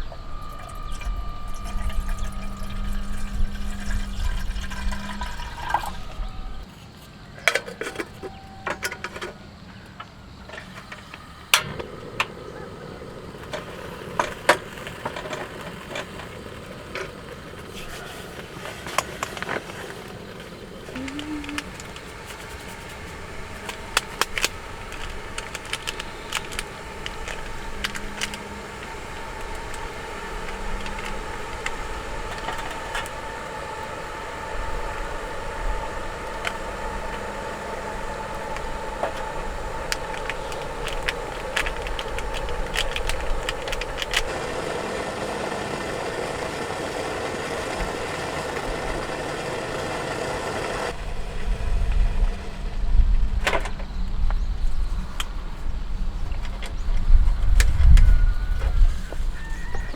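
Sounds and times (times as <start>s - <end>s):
low rumble with hum: 0.0s - 6.7s, 10.3s - 59.9s.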